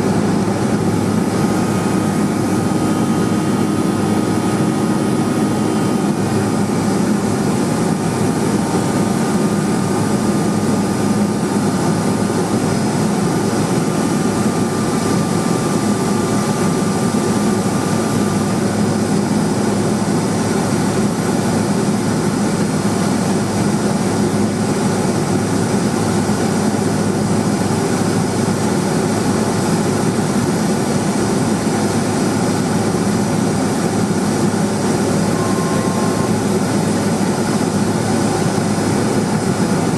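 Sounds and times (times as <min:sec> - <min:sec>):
faint steady whine: 0:00.0 - 0:24.6, 0:32.1 - 0:39.9
turboprop engine drone: 0:00.0 - 0:39.9.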